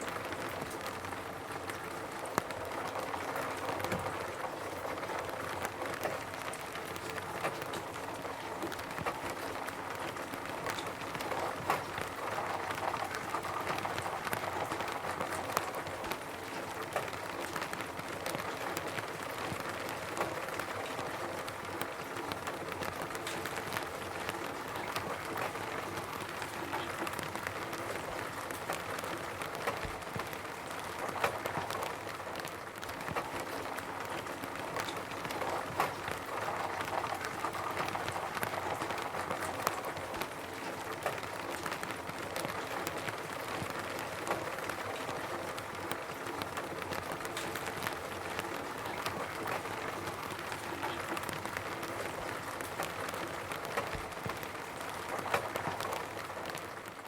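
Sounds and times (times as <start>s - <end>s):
rain pattering on a roof: 0.0s - 57.0s.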